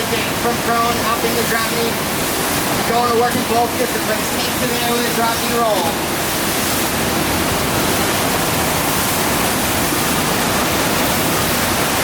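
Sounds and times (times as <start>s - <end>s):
rushing water from wave machine: 0.0s - 12.0s.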